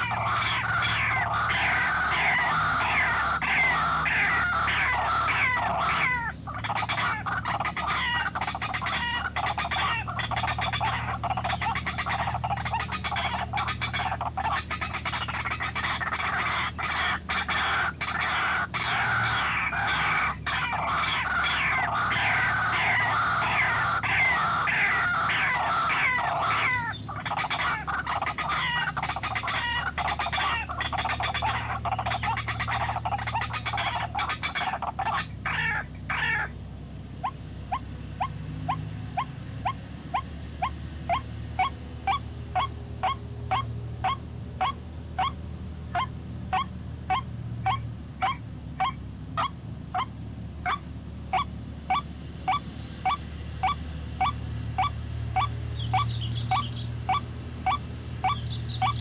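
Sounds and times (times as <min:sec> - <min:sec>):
waterhen calling: 0:00.0 - 0:36.6, 0:37.2 - 0:59.0.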